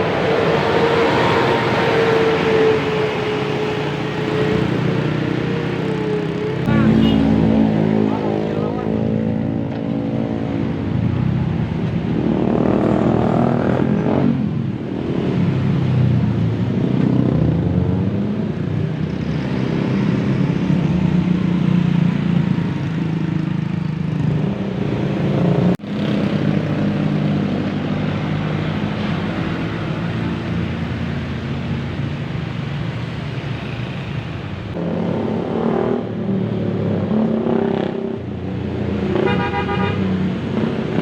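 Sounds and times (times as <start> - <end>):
bus diesel engines passing: 0.0 - 41.0.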